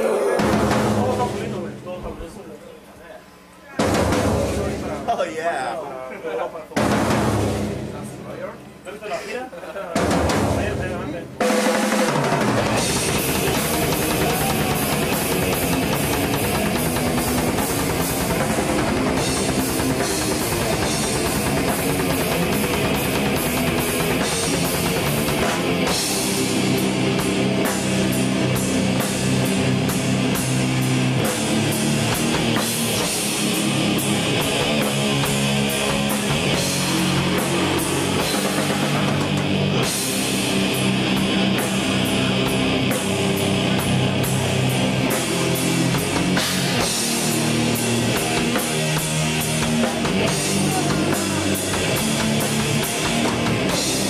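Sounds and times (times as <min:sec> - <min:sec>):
distorted electric guitars: 0:00.0 - 0:01.7, 0:09.8 - 0:54.0
fast pounding drums and cymbals: 0:00.0 - 0:01.9, 0:03.8 - 0:05.4, 0:06.7 - 0:08.5, 0:09.9 - 0:54.0
death metal band playing: 0:00.0 - 0:02.4, 0:03.8 - 0:05.8, 0:06.7 - 0:08.7, 0:09.8 - 0:54.0.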